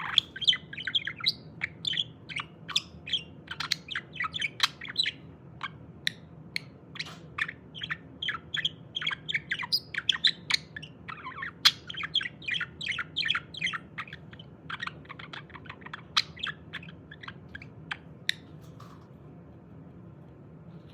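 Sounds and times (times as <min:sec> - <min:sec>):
budgerigar chattering and warbling: 0:00.0 - 0:18.5.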